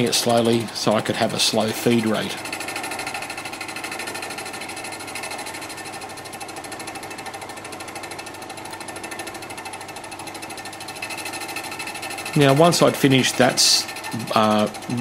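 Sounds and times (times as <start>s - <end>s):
milling machine boring metal: 0.0s - 15.0s.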